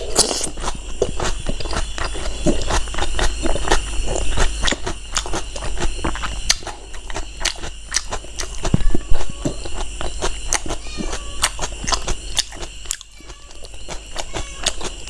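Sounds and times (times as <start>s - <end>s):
wet chewing mouth clicks: 0.0s - 15.0s.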